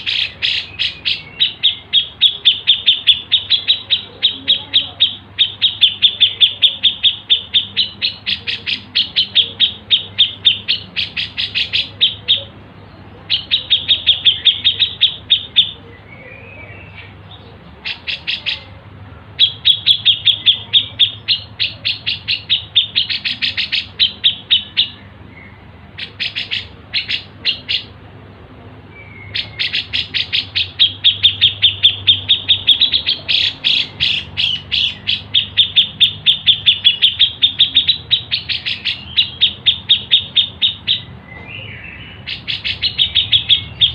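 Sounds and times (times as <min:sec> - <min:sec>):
songbird chirping rapidly: 0:00.0 - 0:43.9.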